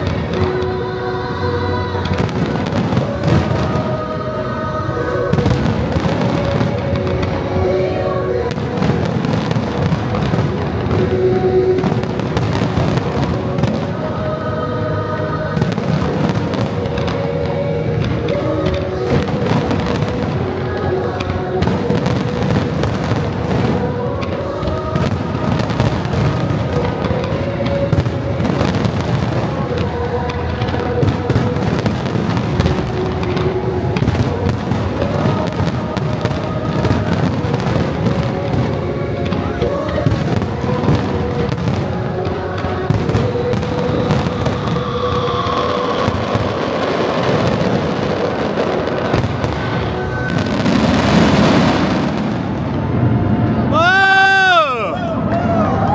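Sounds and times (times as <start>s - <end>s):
fireworks bangs and crackles: 0.0s - 55.9s
music from loudspeakers: 0.0s - 55.9s.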